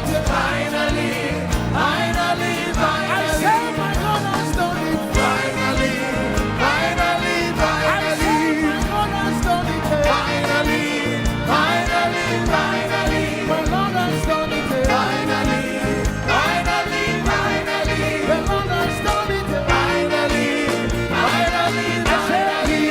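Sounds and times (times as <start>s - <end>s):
band playing a steady beat: 0.0s - 22.9s
voices singing: 0.0s - 22.9s.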